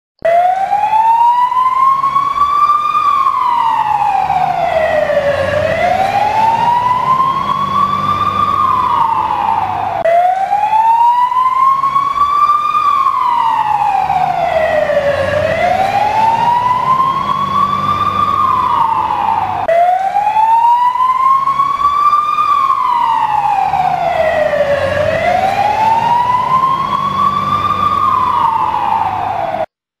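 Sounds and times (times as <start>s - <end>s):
fire engine siren wailing: 0.2s - 29.7s.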